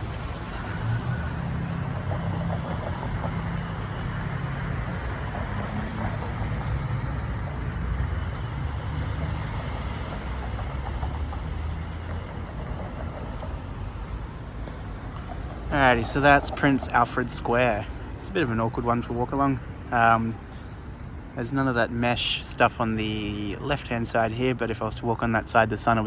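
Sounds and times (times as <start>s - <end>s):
road traffic: 0.0s - 26.0s
vehicle engine humming: 0.0s - 26.0s.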